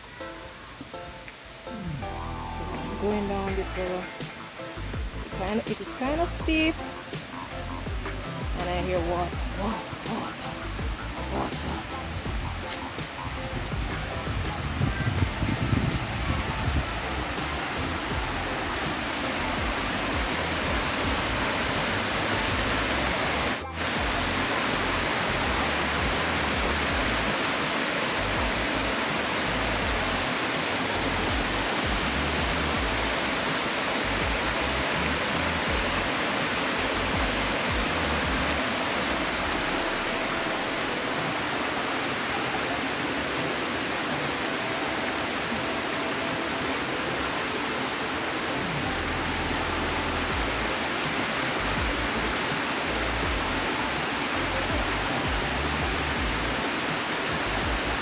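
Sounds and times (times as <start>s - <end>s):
faint background music: 0.0s - 58.0s
waterfall rushing: 0.0s - 58.0s.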